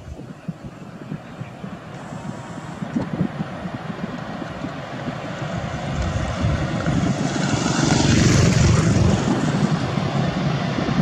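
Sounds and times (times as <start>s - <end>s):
jet engines roaring at takeoff: 0.0s - 11.0s.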